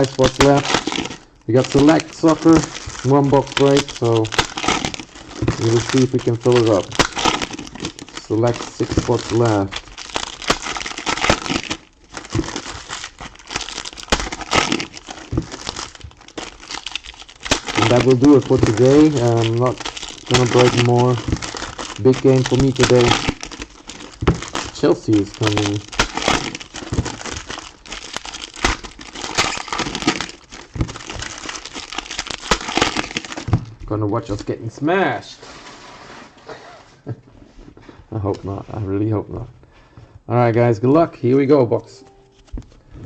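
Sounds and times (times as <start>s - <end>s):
card pack wrappers crinkling: 0.0s - 34.6s.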